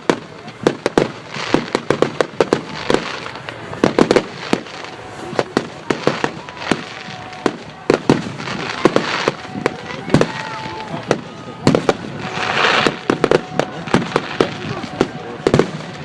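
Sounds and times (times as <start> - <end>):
continuous hiss: 0.0 - 16.0
fireworks bangs and crackles: 0.0 - 16.0
fireworks whistling: 0.0 - 16.0.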